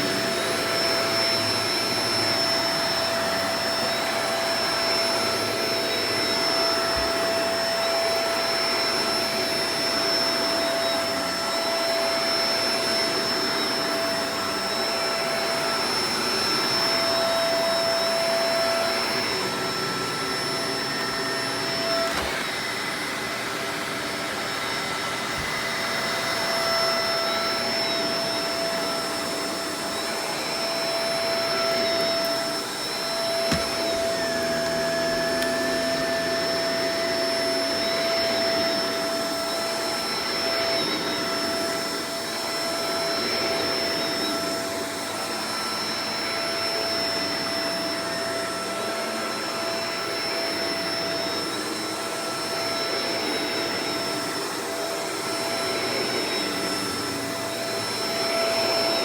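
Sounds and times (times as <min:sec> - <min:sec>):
upright vacuum running: 0:00.0 - 0:59.0.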